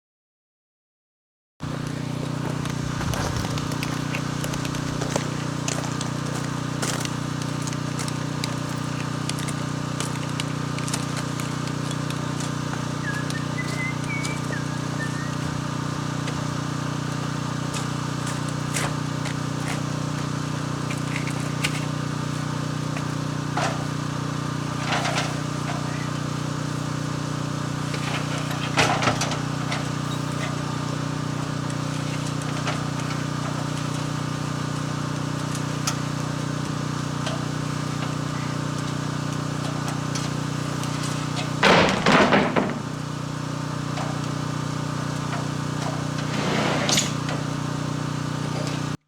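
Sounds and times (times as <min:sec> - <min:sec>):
low motor hum: 0:01.6 - 0:49.0.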